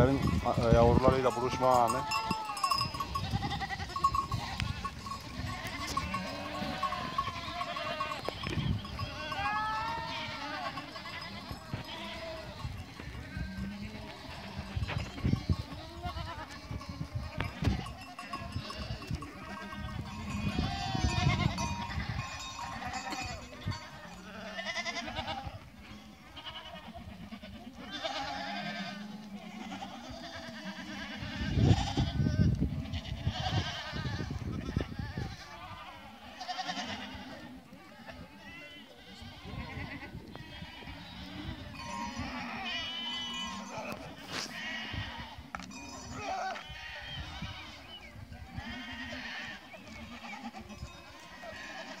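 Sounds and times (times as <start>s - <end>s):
goats bleating: 0.0s - 52.0s.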